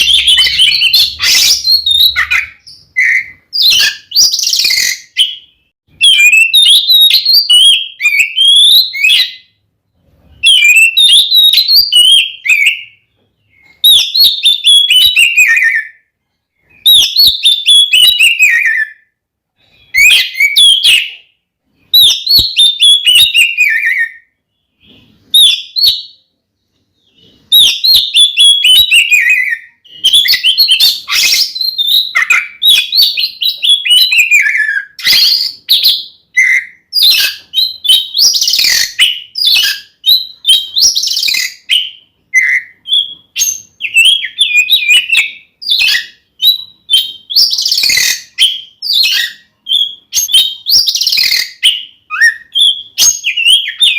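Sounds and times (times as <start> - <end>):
magpie-robin singing: 0.0 - 53.9.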